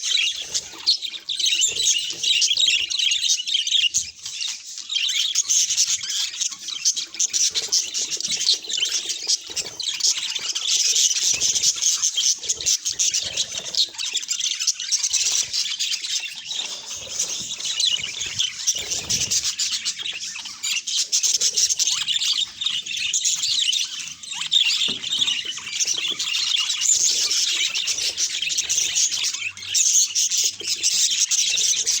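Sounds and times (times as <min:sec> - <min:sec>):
budgerigar chirping: 0:00.0 - 0:32.0.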